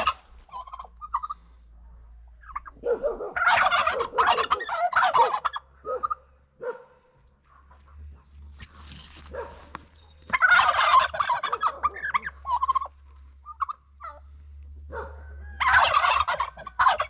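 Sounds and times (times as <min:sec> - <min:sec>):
turkeys gobbling: 0:00.0 - 0:06.5, 0:07.6 - 0:17.0.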